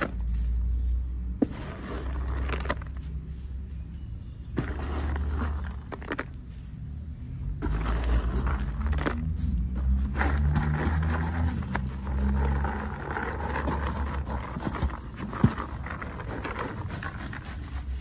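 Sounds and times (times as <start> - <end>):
dry rustling and scraping: 0.0 - 18.0
low steady rumble: 0.0 - 18.0.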